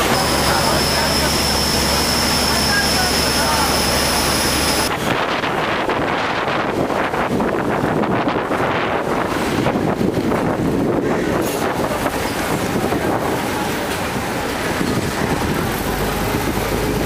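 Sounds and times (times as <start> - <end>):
boat engine rumble: 0.0 - 17.0
water rushing past hull: 0.0 - 17.0
wind buffeting microphone: 0.0 - 17.0.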